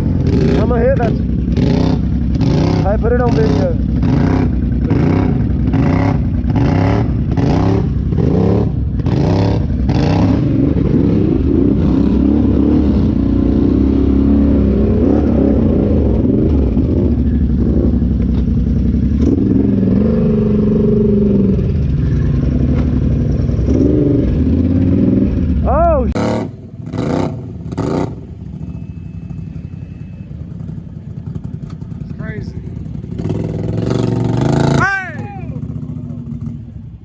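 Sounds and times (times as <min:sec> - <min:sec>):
off-road vehicle engine revving: 0:00.0 - 0:37.0.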